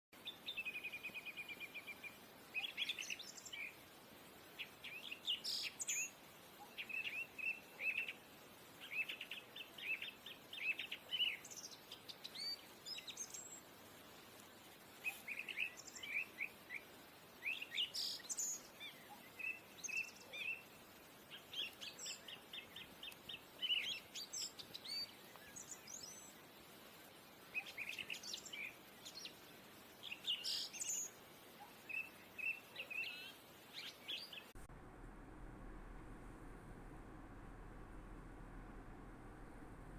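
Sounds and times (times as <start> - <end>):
songbird chirping and trilling: 0.2 - 3.8, 4.4 - 13.8, 15.0 - 34.7.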